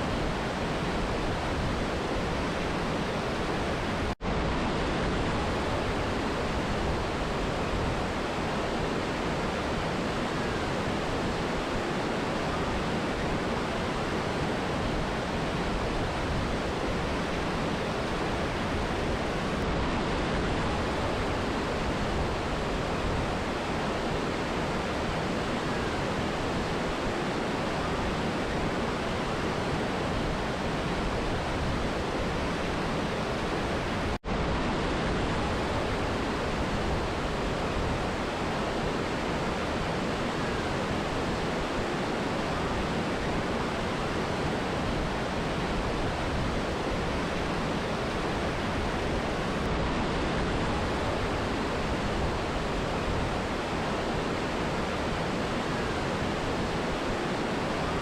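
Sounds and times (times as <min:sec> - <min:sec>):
river and waterfall roaring: 0:00.0 - 0:58.0.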